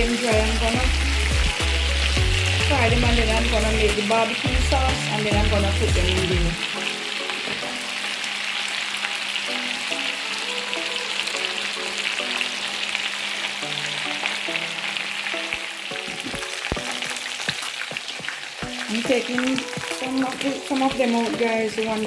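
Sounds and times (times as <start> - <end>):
chicken sizzling in hot oil: 0.0 - 22.0
soft background music: 0.0 - 22.0.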